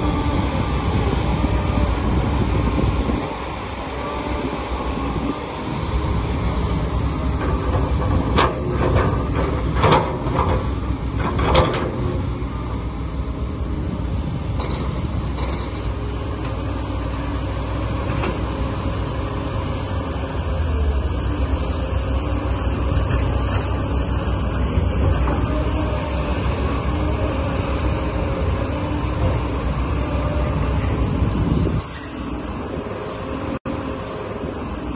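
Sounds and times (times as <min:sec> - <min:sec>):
machine engine drone: 0:00.0 - 0:34.9.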